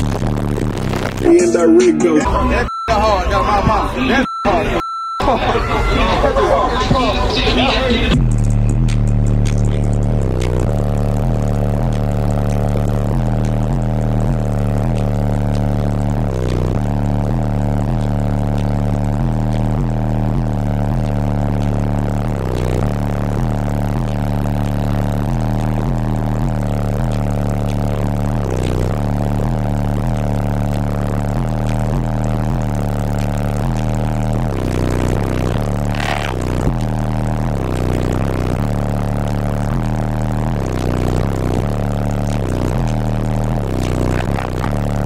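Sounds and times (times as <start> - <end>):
bass-heavy music through subwoofers: 0.0 - 45.0.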